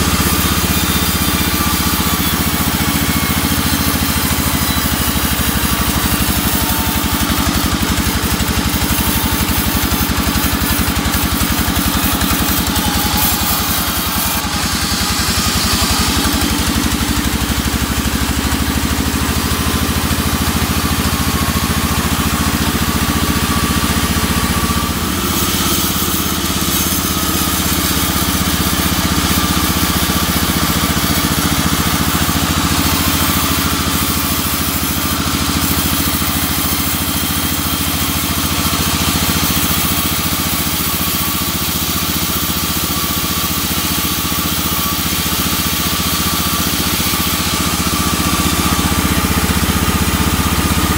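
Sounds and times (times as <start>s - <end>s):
band saw cutting log: 0.0s - 50.9s
engine drone: 0.0s - 50.9s.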